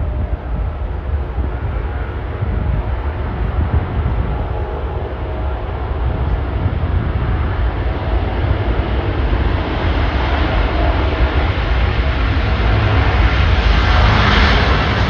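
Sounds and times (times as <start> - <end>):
faint engine whine: 0.0 - 15.0
jet engines roaring: 0.0 - 15.0.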